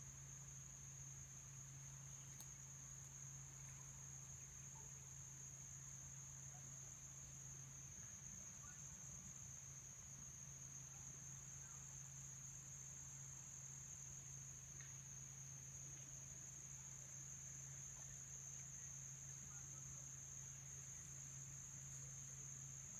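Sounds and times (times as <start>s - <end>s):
crickets trilling: 0.0s - 22.9s.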